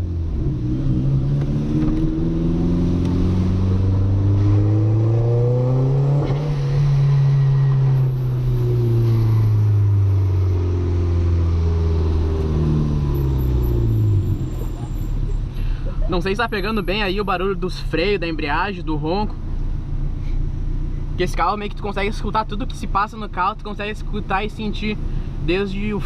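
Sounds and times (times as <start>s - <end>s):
car engine accelerating: 0.0s - 21.1s.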